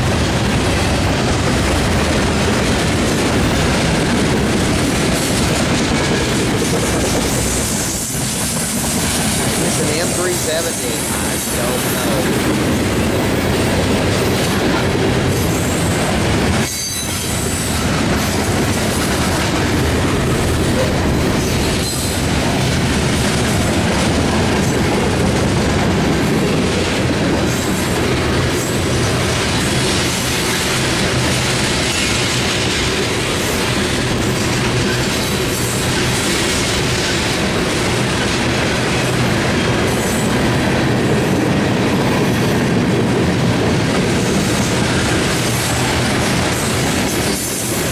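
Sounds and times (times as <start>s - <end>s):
freight train wheels rumbling: 0.0s - 47.9s.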